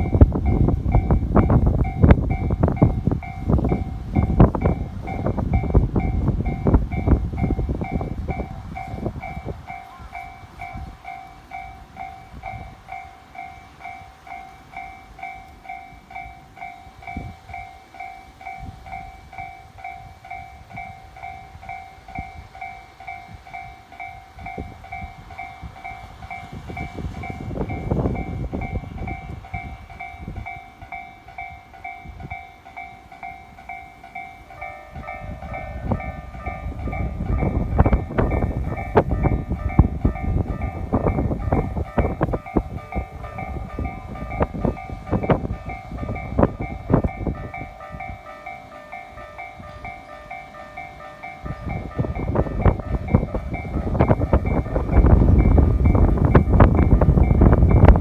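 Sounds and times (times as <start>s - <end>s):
level crossing bell ringing: 0.0s - 58.0s
train rumbling past: 0.0s - 58.0s.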